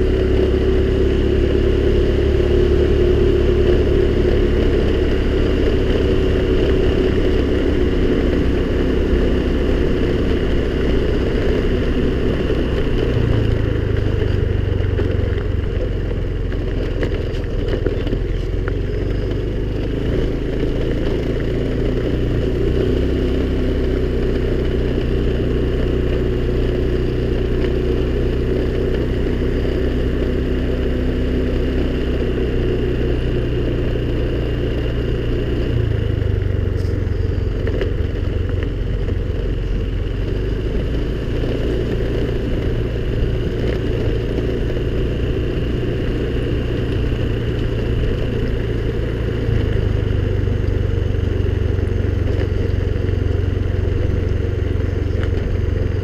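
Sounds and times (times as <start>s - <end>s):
scooter engine running: 0.0s - 56.0s.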